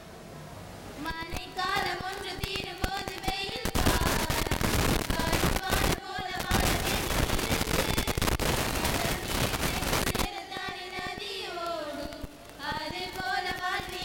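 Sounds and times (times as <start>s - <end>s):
girls singing together: 1.0s - 14.0s
loud rapid crackling: 1.3s - 14.0s.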